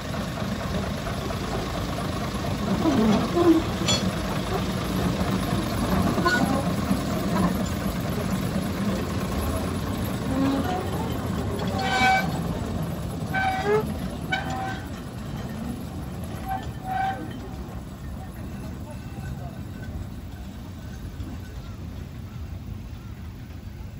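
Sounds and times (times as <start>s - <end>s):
diesel locomotive engine running: 0.0s - 23.9s.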